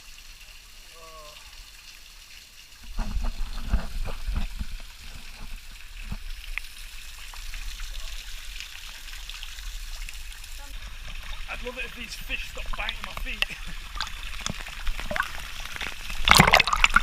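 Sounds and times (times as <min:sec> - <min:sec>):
hiss of flowing water: 0:00.0 - 0:17.0
water splashing and sloshing: 0:00.0 - 0:17.0.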